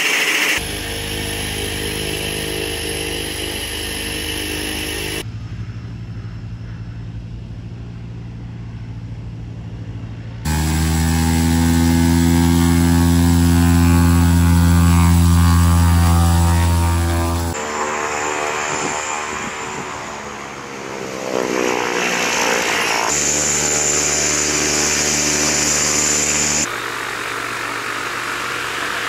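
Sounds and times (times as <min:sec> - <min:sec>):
turboprop engine idling: 0:00.0 - 0:17.6, 0:23.1 - 0:29.0.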